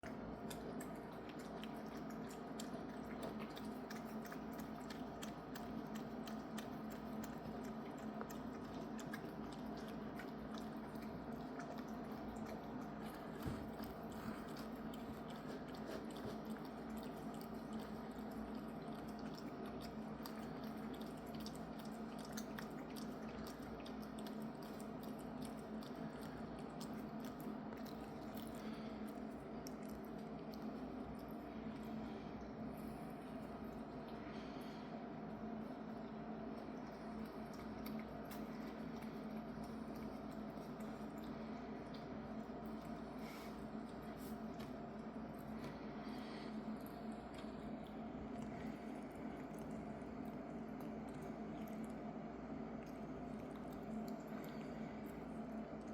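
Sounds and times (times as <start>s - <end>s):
cat chewing wet food: 0.0s - 55.9s
steady low hum: 0.0s - 55.9s.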